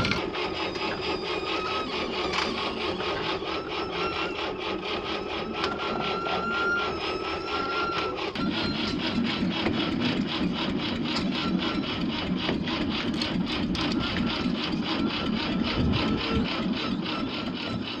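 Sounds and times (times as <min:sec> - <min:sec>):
engine mechanical clatter: 0:00.0 - 0:18.0.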